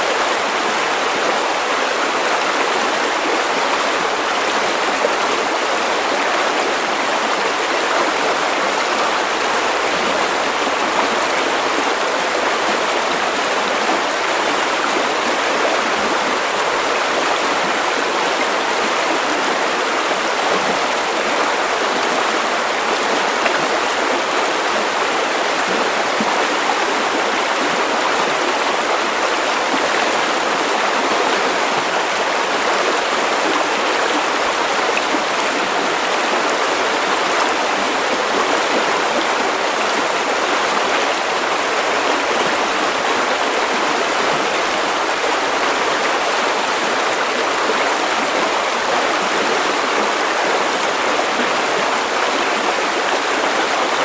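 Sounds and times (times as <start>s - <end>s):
river water over stones: 0.0s - 54.0s.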